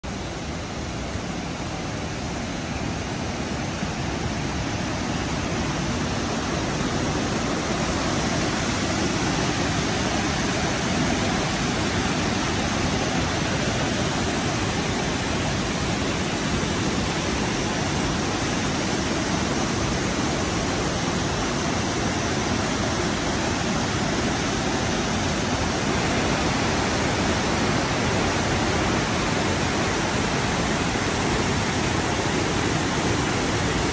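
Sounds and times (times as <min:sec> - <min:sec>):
waterfall roaring: 0:00.0 - 0:33.9.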